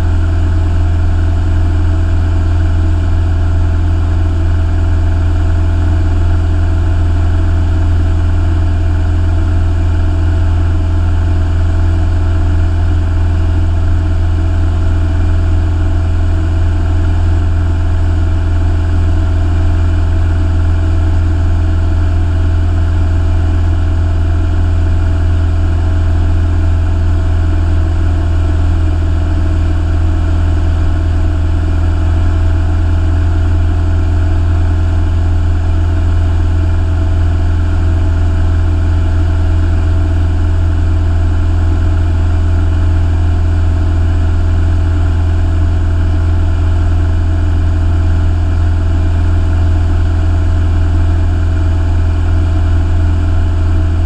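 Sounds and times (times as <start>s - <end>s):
propeller aircraft engine in flight: 0.0s - 54.0s.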